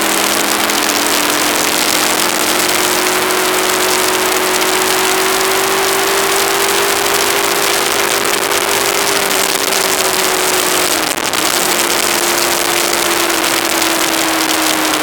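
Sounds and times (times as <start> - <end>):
motorcycle engine tone: 0.0 - 15.0
wind noise on microphone: 0.0 - 15.0.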